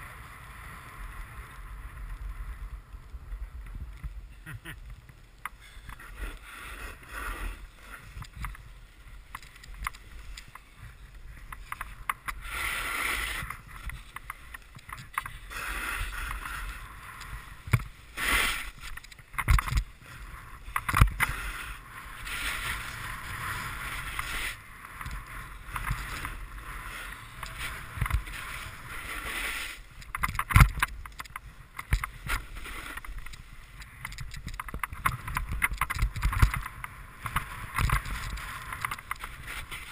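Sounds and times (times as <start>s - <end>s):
low wind rumble: 0.0s - 39.9s
snowboard scraping over snow: 0.0s - 39.9s.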